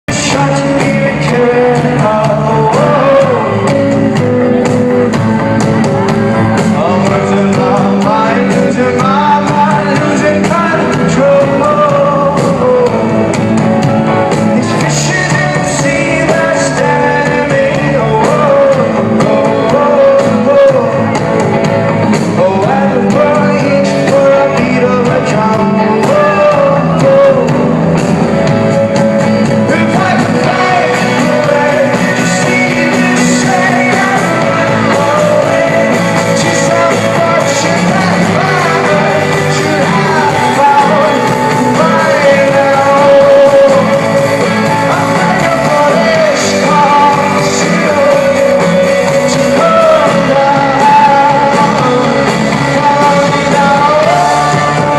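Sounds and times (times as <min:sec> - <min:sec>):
lead vocal singing: 0:00.0 - 0:54.9
rock band playing live: 0:00.0 - 0:54.9.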